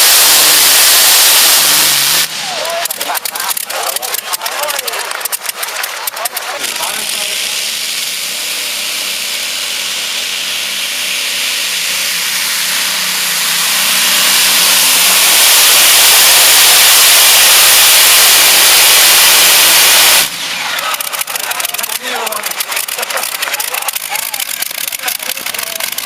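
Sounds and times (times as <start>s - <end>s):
pulling tractor engine at full throttle: 0.0s - 26.0s.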